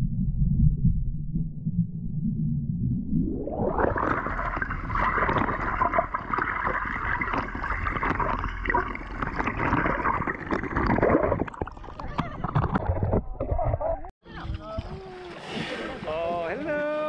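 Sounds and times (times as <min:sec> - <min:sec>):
water gurgling and sloshing: 0:00.0 - 0:16.8.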